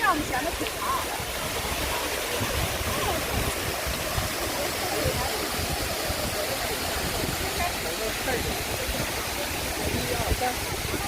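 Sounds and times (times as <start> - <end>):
faint chatter of people: 0.0 - 11.0
flowing water rushing: 0.0 - 11.0.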